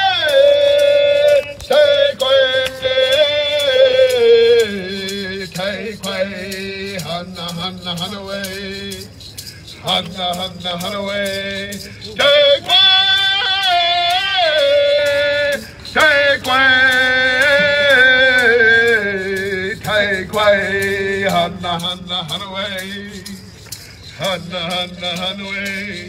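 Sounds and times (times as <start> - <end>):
man singing through microphone: 0.0 - 26.0.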